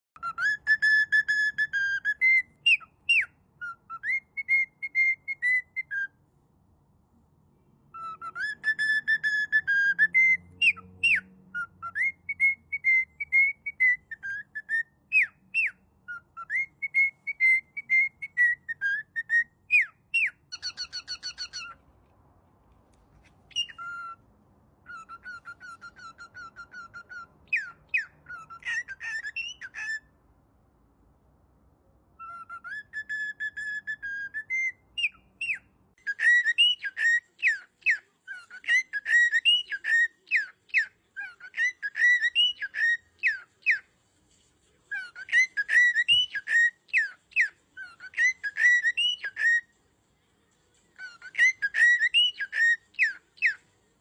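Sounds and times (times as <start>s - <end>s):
songbird singing: 0.2s - 6.2s, 7.9s - 21.9s, 23.2s - 30.1s, 32.2s - 43.8s, 44.9s - 49.7s, 51.0s - 53.6s.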